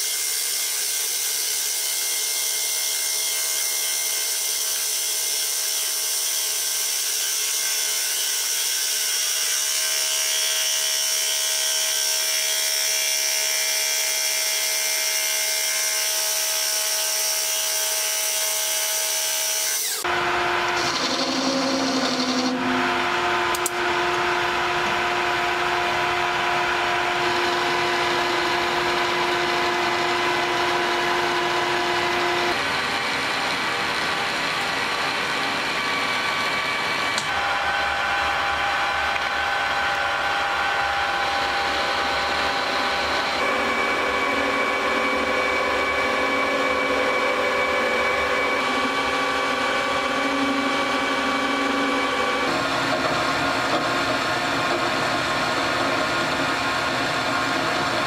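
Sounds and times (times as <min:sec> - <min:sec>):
metal lathe whining: 0:00.0 - 0:58.0.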